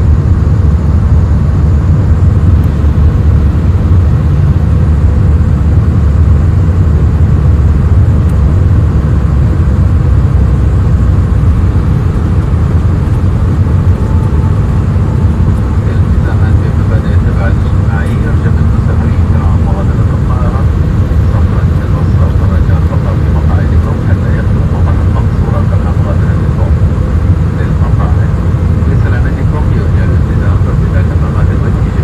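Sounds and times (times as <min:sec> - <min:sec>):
jet airliner cabin rumble: 0:00.0 - 0:32.0.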